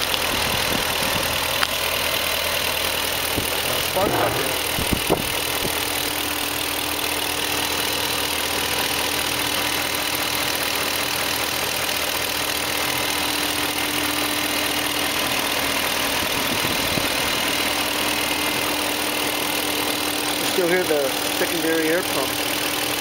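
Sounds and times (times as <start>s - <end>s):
car engine idling with ticking: 0.0s - 23.0s.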